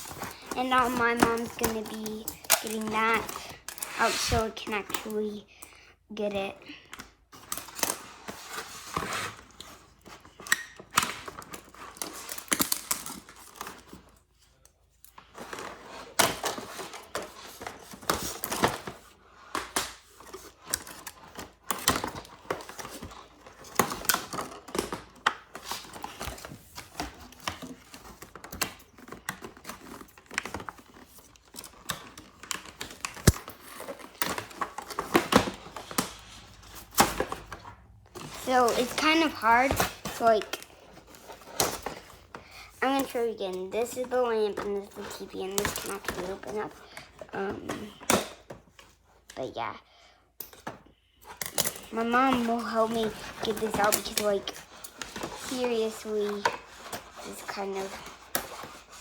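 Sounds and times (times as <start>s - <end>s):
packaging crinkling and rustling: 0.0s - 5.3s, 7.2s - 49.4s, 50.5s - 59.0s.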